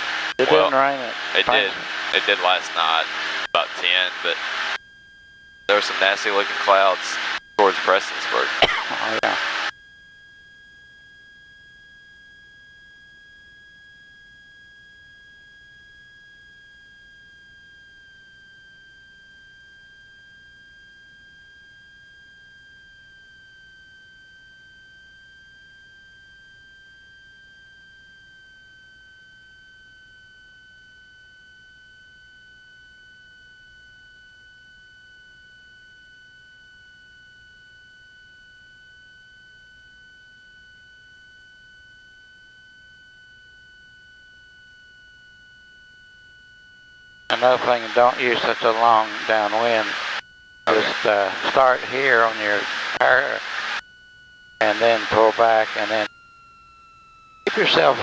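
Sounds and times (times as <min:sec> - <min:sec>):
high electrical whine: 0:00.0 - 0:58.0.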